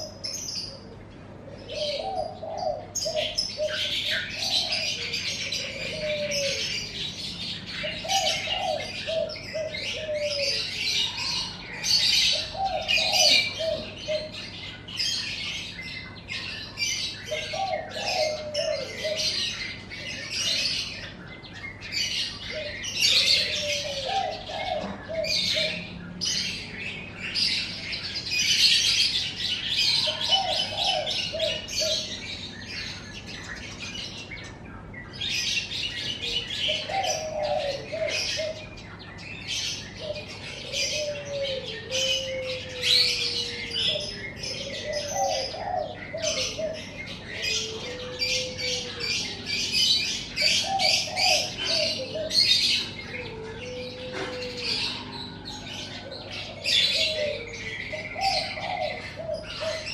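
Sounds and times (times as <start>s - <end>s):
dove cooing: 0.0s - 59.9s
songbirds chirping and twittering: 0.0s - 59.9s.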